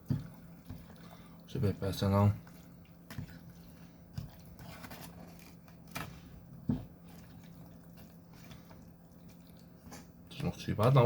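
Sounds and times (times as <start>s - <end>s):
wet squishing of pasta stirred: 0.0s - 11.0s.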